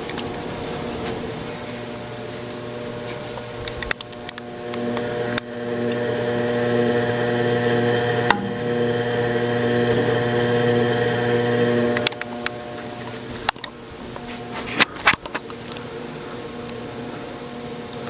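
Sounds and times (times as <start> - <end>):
ceiling fan motor humming: 0.0 - 18.0.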